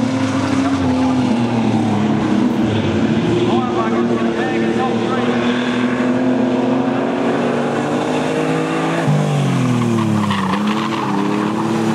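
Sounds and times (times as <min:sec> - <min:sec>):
race car passing by: 0:00.0 - 0:11.9
racing car engines running: 0:00.0 - 0:11.9.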